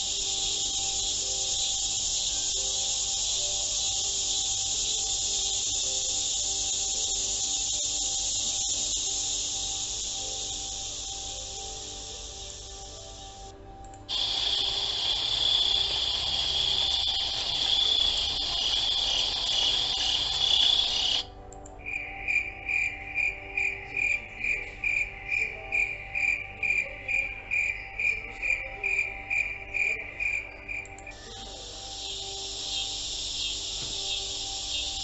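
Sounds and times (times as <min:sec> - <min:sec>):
insect high trill: 0:00.0 - 0:35.0
insects chirping rhythmically: 0:00.0 - 0:35.0.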